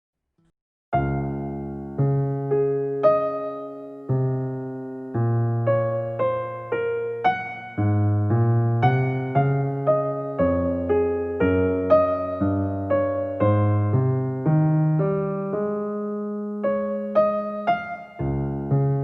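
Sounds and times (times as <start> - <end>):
electric piano melody: 1.0 - 19.0.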